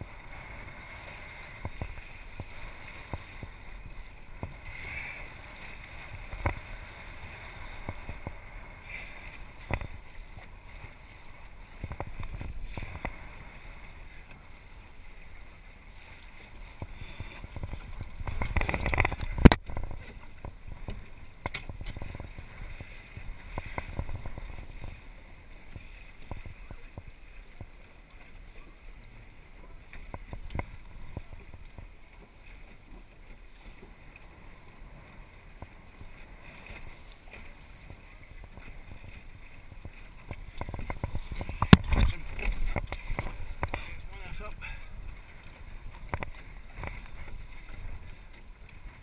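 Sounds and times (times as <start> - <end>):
water splashing along hull: 0.0 - 49.0.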